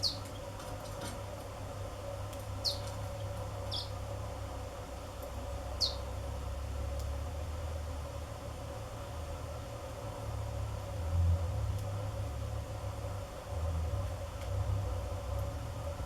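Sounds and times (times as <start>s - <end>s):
steady low hum: 1.2s - 16.0s.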